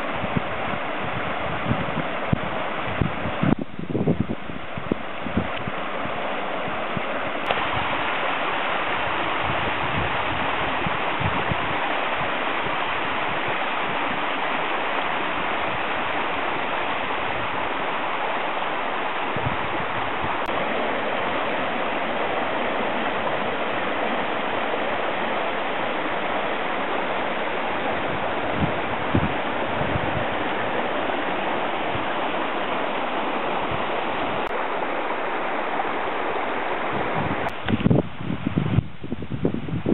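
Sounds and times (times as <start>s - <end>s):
floodwater rushing: 0.0s - 39.1s.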